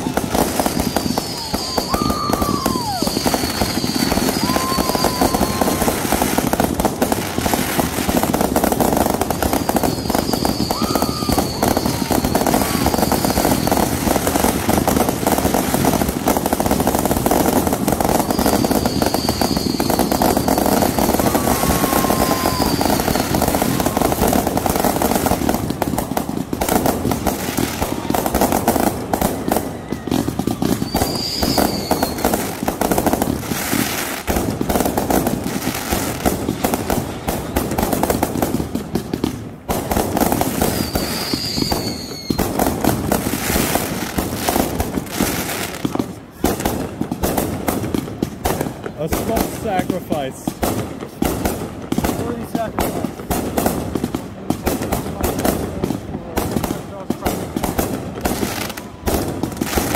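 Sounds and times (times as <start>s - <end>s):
firework whistles: 0.0s - 38.4s, 40.0s - 50.5s, 55.4s - 59.9s
fireworks crackling and popping: 0.0s - 59.9s.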